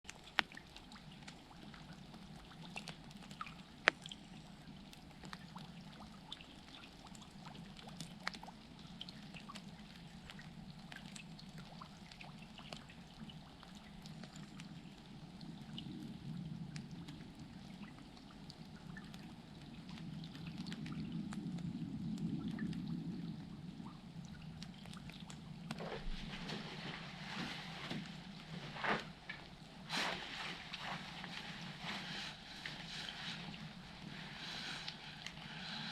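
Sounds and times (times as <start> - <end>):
low steady water rush: 0.0 - 35.9
water trickling and dripping: 0.1 - 35.9.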